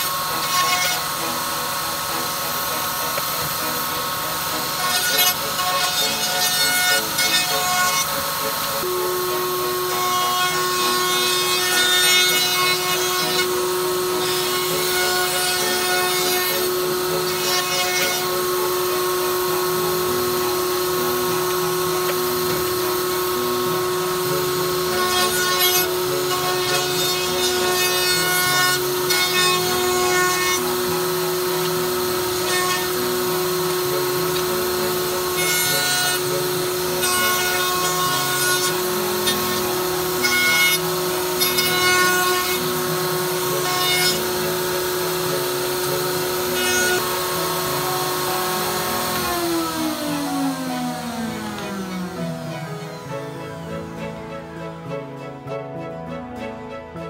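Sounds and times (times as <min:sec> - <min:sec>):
axis motors whirring: 0:00.0 - 0:55.0
router spindle whining: 0:00.0 - 0:56.5.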